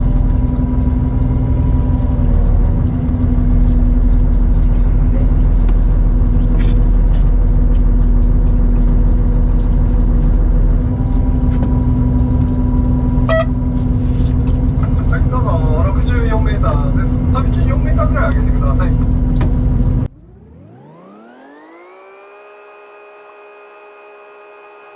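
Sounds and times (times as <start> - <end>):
boat engine rumbling: 0.0 - 21.3.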